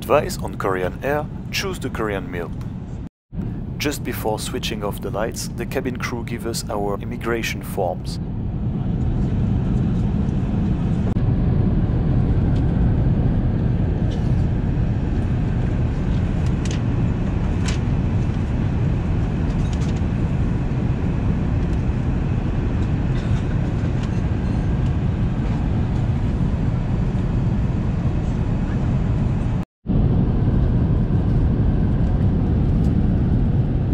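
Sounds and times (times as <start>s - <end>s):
airplane cabin engine rumble: 0.0s - 33.9s.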